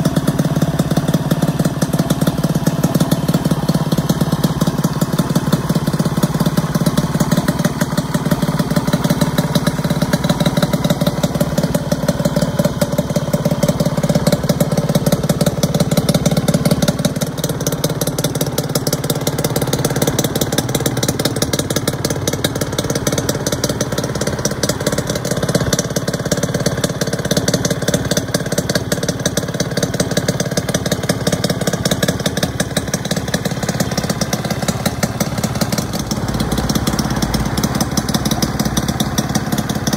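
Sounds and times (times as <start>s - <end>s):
two-stroke engine idling: 0.0s - 39.9s.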